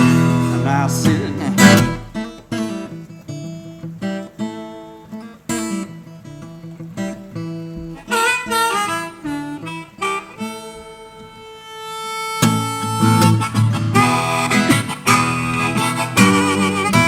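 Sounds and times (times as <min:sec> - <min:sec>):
harmonica bending notes: 0:00.0 - 0:17.0
strummed acoustic guitar: 0:00.0 - 0:17.0.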